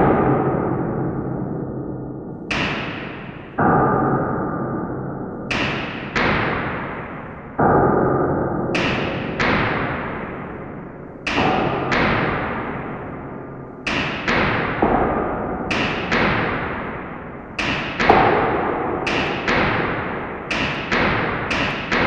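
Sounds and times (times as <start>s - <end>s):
booming reverberant impacts: 0.0s - 22.0s.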